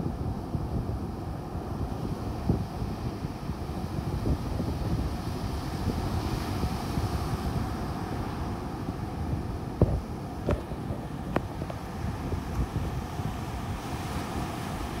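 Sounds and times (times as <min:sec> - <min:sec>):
surf breaking on a beach: 0:00.0 - 0:15.0
wind buffeting microphone: 0:00.0 - 0:15.0.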